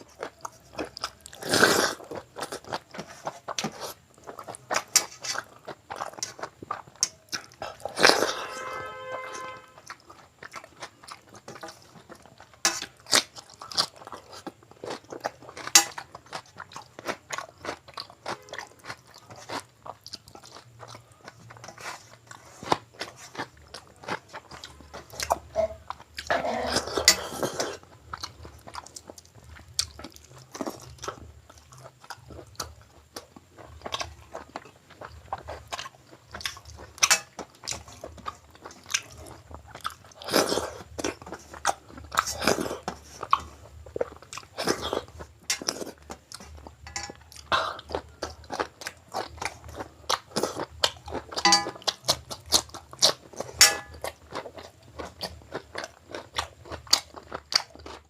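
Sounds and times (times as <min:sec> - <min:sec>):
close chewing with mouth smacks: 0:00.0 - 0:08.5, 0:09.8 - 0:58.0.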